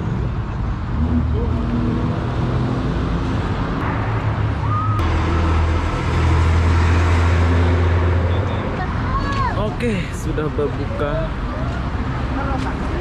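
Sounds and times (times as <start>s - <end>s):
street traffic noise: 0.0s - 13.0s
vehicle engine rumbling: 0.0s - 13.0s.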